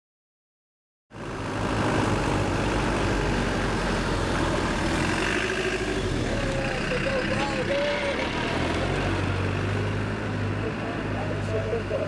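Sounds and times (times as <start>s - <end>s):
van engine running: 1.1s - 12.0s.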